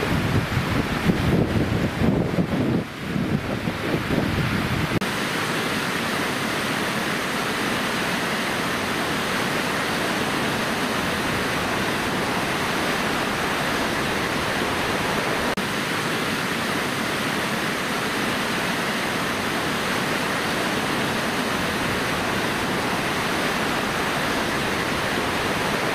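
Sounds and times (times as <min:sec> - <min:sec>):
river rushing: 0:00.0 - 0:25.9.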